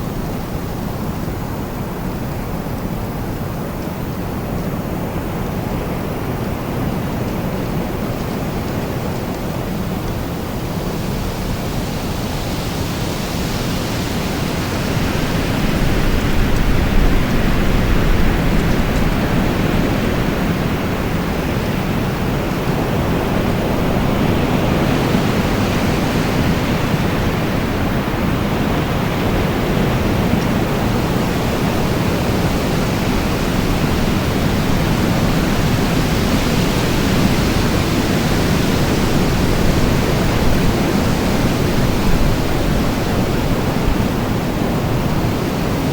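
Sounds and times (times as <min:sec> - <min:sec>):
strong wind blowing: 0:00.0 - 0:45.9.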